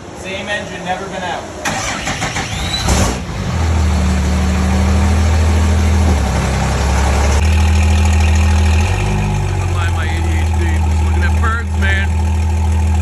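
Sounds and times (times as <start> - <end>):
diesel engine starting and idling: 0.3 - 13.0.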